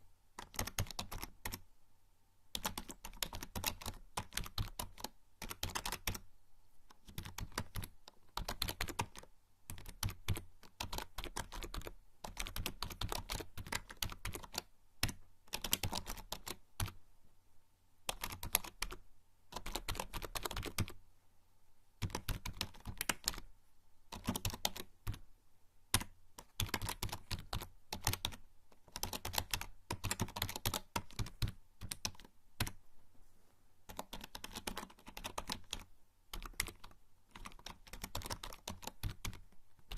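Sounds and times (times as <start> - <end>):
typing on computer keyboard: 0.4 - 1.6, 2.5 - 6.3, 6.9 - 17.0, 18.1 - 21.0, 22.0 - 23.5, 24.1 - 25.2, 25.9 - 32.8, 33.9 - 39.9.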